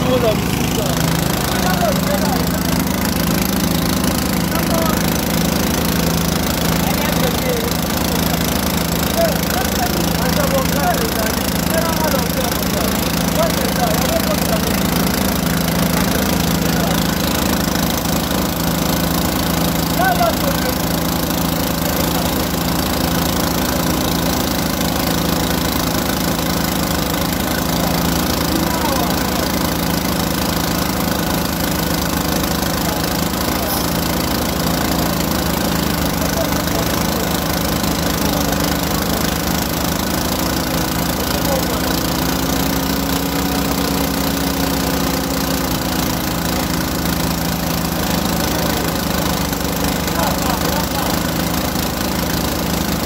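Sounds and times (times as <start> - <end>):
drilling rig engine pulsing: 0.0 - 53.0.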